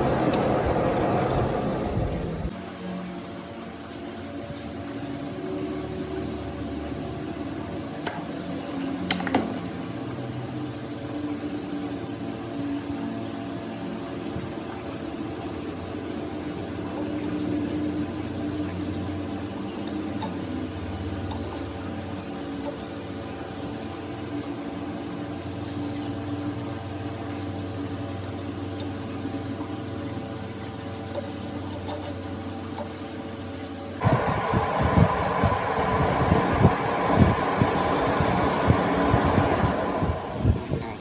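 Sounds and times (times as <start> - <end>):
workshop machine humming: 0.0 - 41.0.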